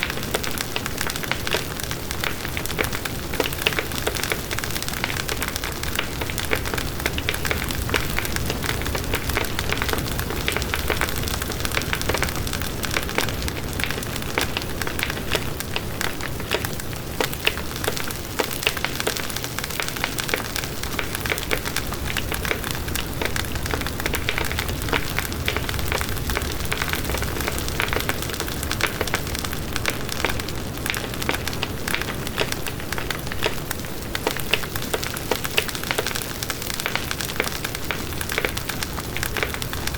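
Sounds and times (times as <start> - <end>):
wood crackling: 0.0 - 39.9.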